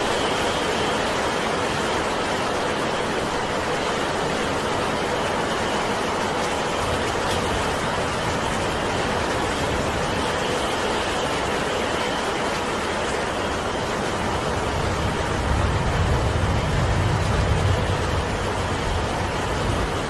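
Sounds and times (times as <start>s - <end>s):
rain and wind hiss: 0.0s - 20.0s.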